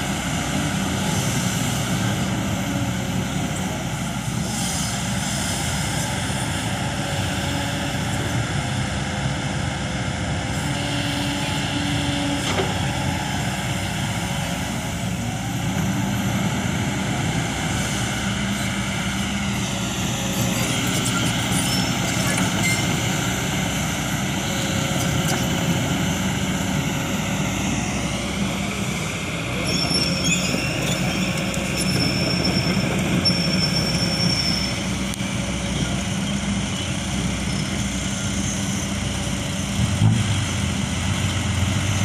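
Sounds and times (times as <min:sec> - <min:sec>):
excavator diesel engine under load: 0:00.0 - 0:42.0.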